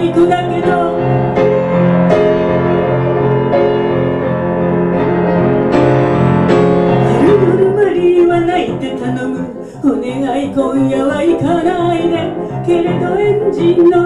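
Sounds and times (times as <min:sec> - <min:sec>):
grand piano chords: 0:00.0 - 0:14.0.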